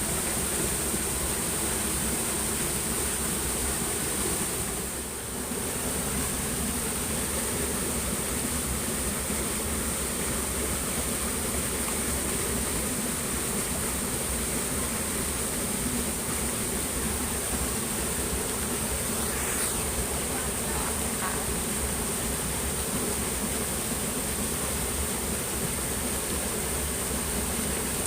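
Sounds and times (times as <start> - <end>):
flowing water rushing: 0.0 - 28.0
night insects chorus: 0.0 - 28.0.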